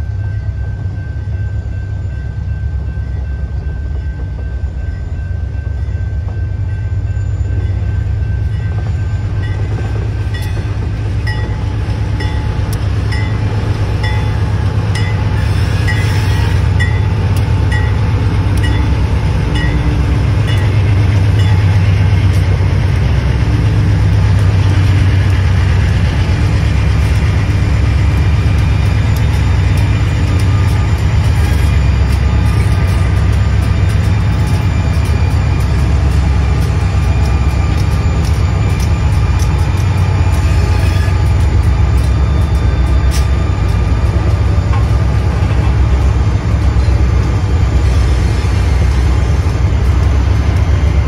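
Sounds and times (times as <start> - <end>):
crossing bell ringing: 0.0 - 51.0
diesel locomotives rumbling past: 0.0 - 51.0.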